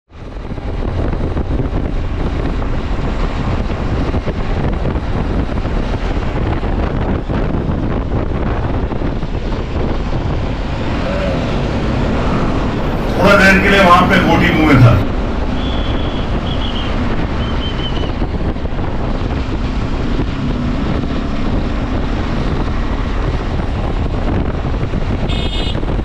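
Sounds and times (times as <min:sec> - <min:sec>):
wind rushing over microphone: 0:00.1 - 0:26.0.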